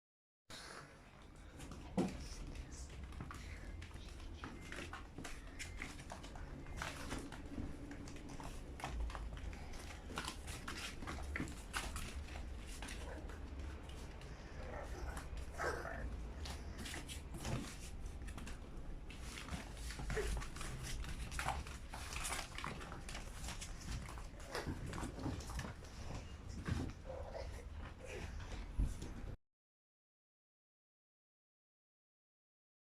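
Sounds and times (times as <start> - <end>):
puppies scuffling and clicking: 1.1 - 29.4.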